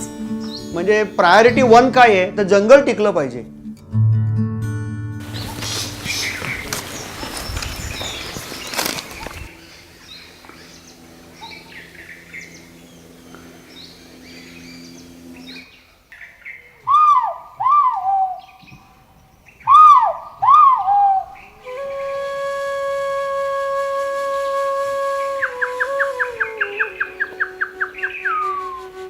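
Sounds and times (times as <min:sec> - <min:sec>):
loud rising and falling bird calls: 0:05.2 - 0:29.0.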